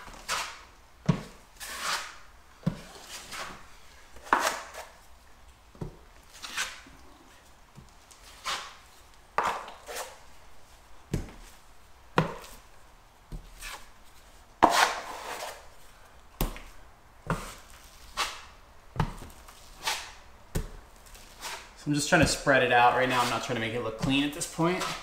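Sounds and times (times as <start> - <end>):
drywall knife spreading compound: 0.0 - 5.1, 6.2 - 10.4, 11.1 - 25.0.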